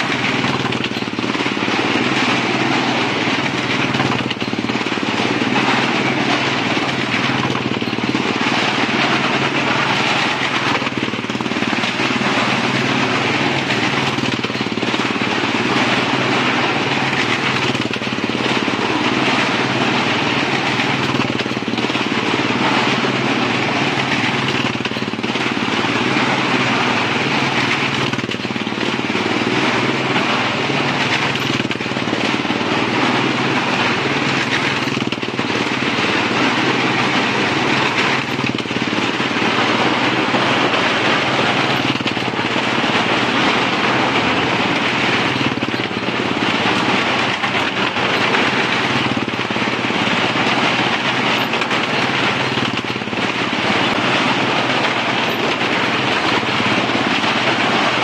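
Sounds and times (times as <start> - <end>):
motorcycle engines at high revs: 0.0 - 58.0.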